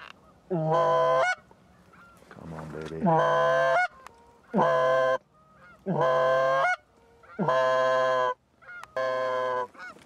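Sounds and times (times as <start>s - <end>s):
goose honks: 0.0s - 2.2s, 3.0s - 10.0s.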